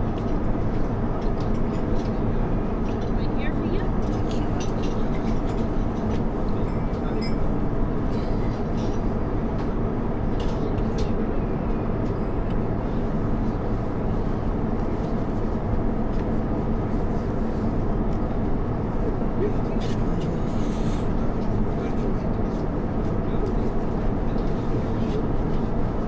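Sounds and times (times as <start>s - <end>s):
airliner cabin rumble: 0.0s - 26.0s.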